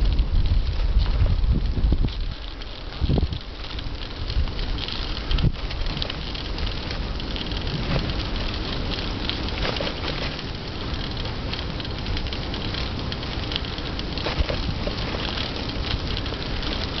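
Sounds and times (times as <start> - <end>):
small crackles and ticks: 0.0 - 17.0
wind on microphone: 0.0 - 17.0.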